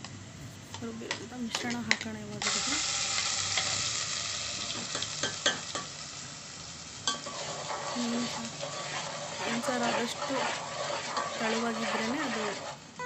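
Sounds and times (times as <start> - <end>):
hot oil sizzling in a pan: 1.0 - 13.0.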